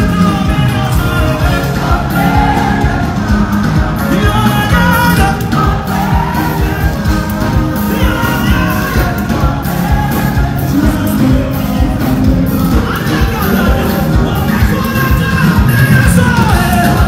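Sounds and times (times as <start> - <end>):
gospel band with singing: 0.0 - 17.0.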